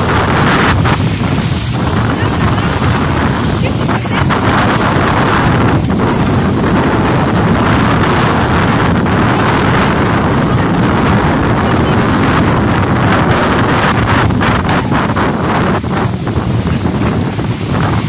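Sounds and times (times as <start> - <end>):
small waves lapping: 0.0 - 18.0
wind buffeting microphone: 0.0 - 18.0.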